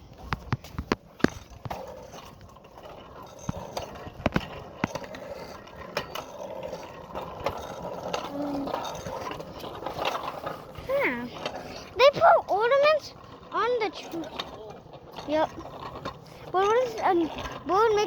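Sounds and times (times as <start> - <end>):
bicycle chain clicking and rattling: 0.0 - 18.0.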